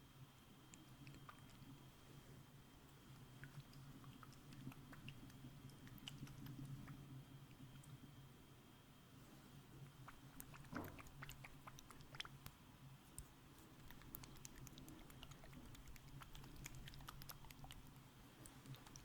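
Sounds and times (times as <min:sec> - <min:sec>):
small crisp clicks and crackles: 0:00.6 - 0:01.9, 0:03.0 - 0:08.0, 0:09.8 - 0:19.0.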